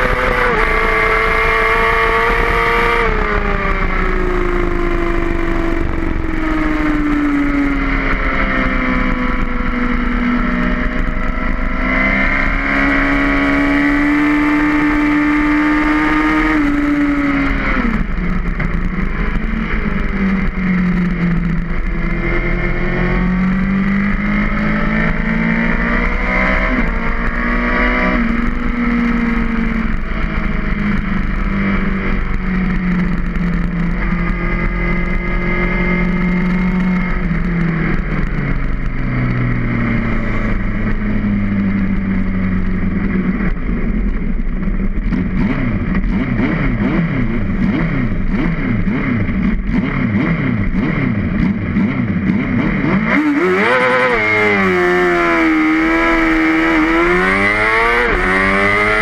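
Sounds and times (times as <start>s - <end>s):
motorcycle engine revving: 0.0s - 59.0s
wind and tyre rushing: 0.0s - 59.0s.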